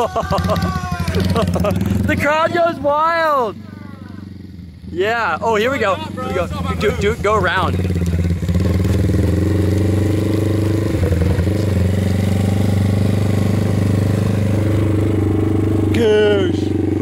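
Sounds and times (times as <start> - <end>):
motorcycle engine at low revs: 0.2 - 17.0.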